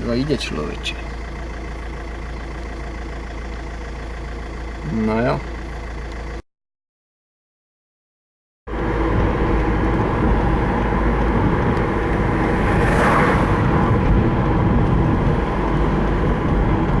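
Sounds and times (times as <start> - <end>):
diesel engine rumbling: 0.0 - 6.4, 8.7 - 17.0.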